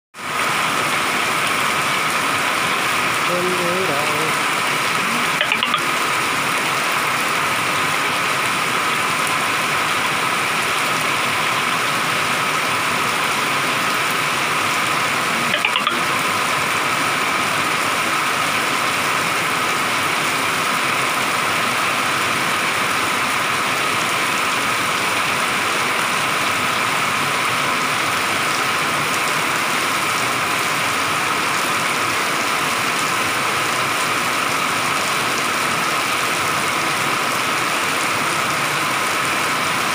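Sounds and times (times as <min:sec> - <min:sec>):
heavy rain pouring: 0:00.2 - 0:39.9.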